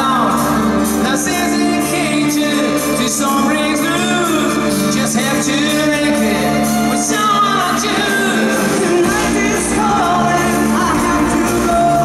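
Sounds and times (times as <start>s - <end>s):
acoustic guitar: 0.0s - 12.0s
drums: 0.0s - 12.0s
man singing: 0.0s - 12.0s.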